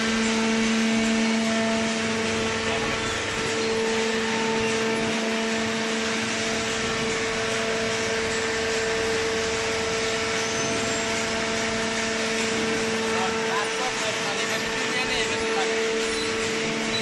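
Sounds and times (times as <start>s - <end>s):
baling press machine hum: 0.0s - 17.0s.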